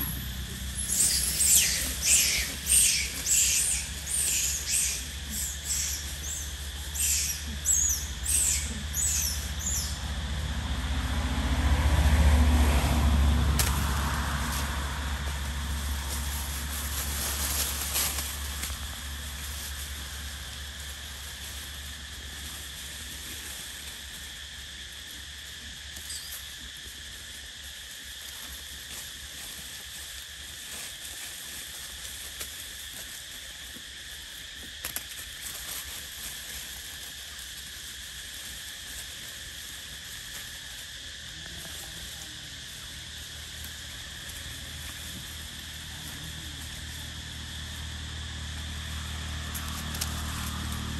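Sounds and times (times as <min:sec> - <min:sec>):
insect chorus drone: 0:00.0 - 0:50.9
rustling on dry leaves: 0:00.0 - 0:50.9.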